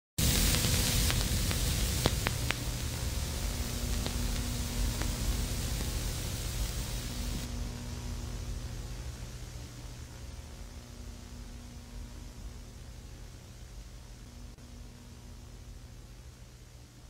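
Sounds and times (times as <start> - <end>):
low hum: 0.2 - 17.0
videotape hiss and static: 0.2 - 17.0.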